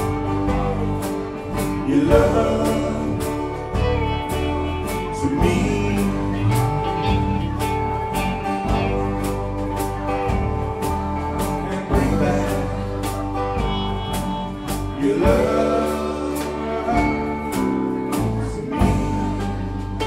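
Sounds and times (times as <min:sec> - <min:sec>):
man singing: 0:00.0 - 0:07.4, 0:10.8 - 0:20.0
bass: 0:00.0 - 0:20.0
drum kit beat: 0:00.0 - 0:20.0
electric and acoustic guitars: 0:00.0 - 0:20.0.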